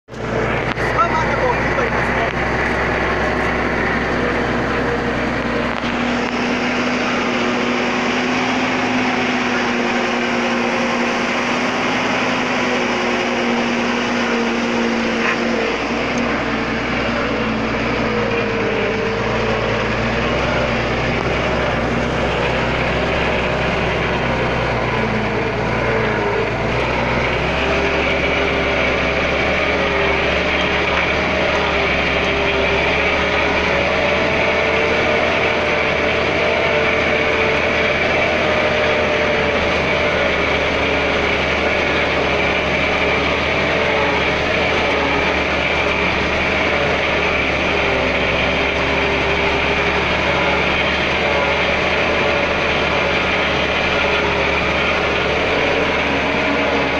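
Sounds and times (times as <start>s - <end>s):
road noise: 0.0s - 56.9s
truck engine running: 0.0s - 56.9s.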